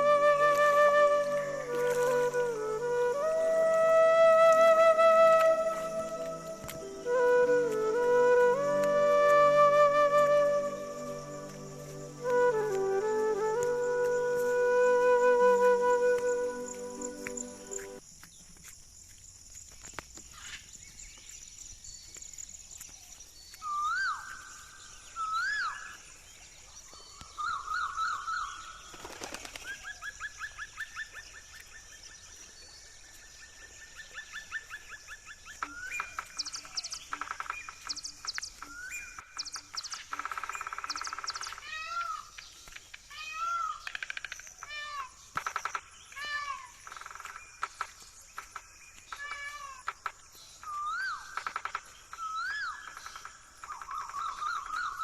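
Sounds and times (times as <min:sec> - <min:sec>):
birds whistling and trilling: 0:00.0 - 0:18.0, 0:20.3 - 0:44.6, 0:50.4 - 0:55.0
steady high-pitched hiss: 0:00.0 - 0:55.0.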